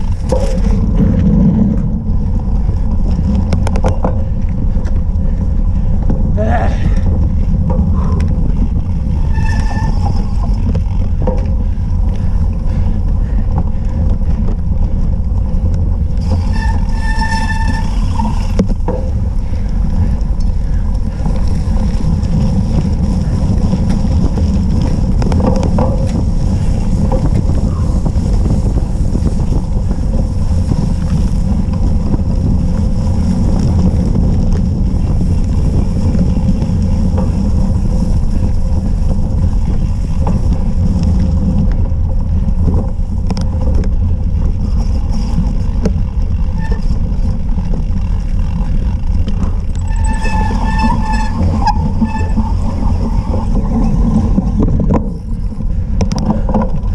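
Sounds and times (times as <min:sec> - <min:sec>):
bike rumbling over grass and dirt: 0:00.0 - 0:56.9
wind buffeting microphone: 0:00.0 - 0:56.9.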